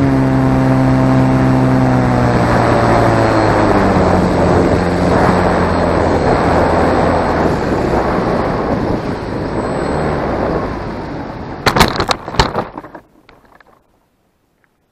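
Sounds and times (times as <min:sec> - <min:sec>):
low motor hum: 0:00.0 - 0:14.8
plane skidding on rocky ground: 0:01.3 - 0:14.0.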